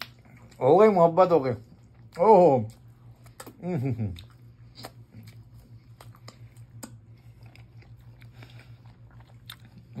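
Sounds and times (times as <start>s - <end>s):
man chewing food: 0.0s - 10.0s
steady low hum: 0.0s - 10.0s.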